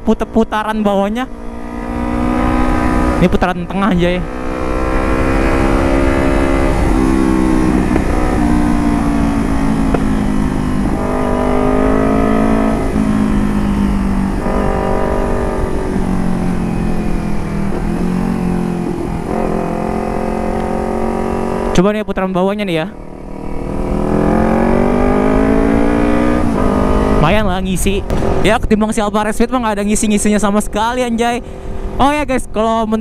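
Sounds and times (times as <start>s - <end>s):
motorcycle engine revving: 0.0s - 28.6s.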